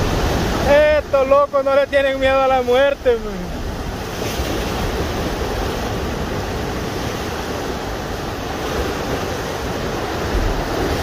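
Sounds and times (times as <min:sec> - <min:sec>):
sea surf against rocks: 0:00.0 - 0:11.0.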